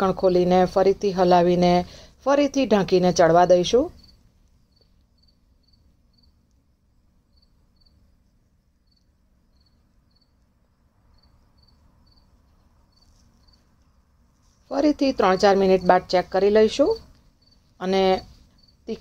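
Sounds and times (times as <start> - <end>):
faint insect chirping: 0.0 - 19.0.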